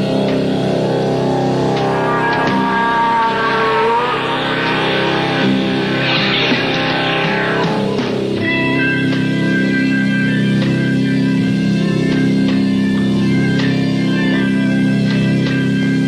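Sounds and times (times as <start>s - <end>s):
rock band playing: 0.0s - 15.9s
sustained electric guitar notes: 0.0s - 16.0s.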